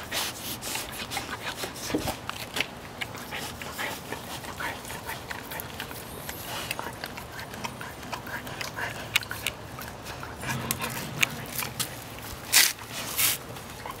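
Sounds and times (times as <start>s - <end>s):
dog licking wetly: 0.0s - 14.0s.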